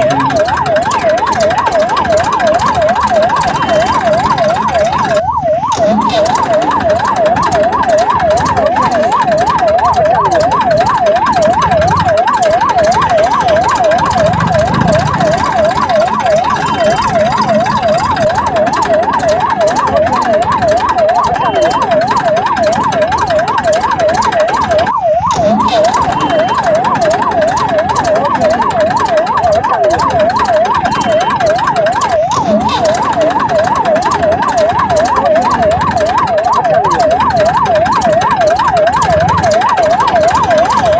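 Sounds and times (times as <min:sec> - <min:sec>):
electronic siren yelping: 0:00.0 - 0:40.9.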